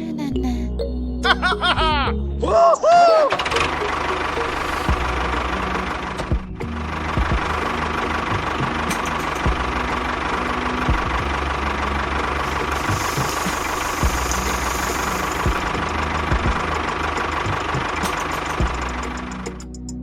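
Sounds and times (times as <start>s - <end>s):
small engine running: 3.3s - 19.8s.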